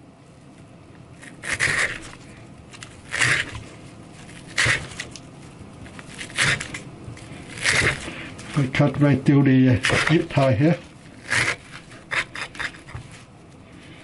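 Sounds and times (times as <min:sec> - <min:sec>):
knife slicing with scraping crunch: 0:01.2 - 0:13.3.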